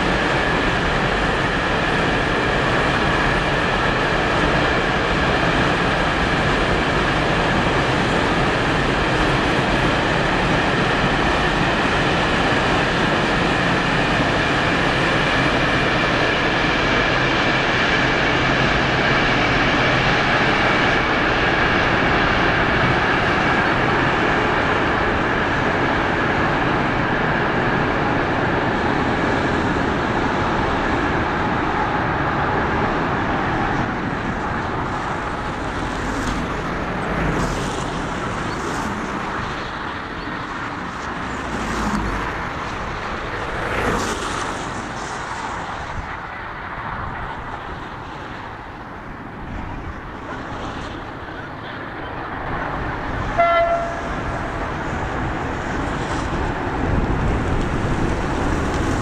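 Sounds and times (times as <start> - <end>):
train wheels rushing on rail: 0.0 - 59.0.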